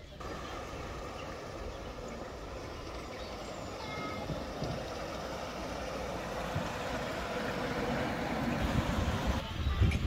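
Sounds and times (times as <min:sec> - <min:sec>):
miniature train approaching on track: 0:00.0 - 0:10.0.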